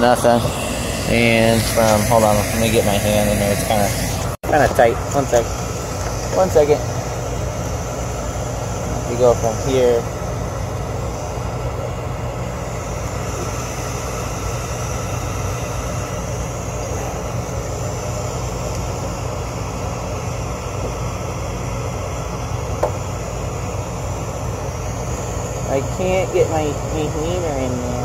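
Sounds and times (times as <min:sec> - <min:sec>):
hvac unit humming: 0:00.0 - 0:28.0.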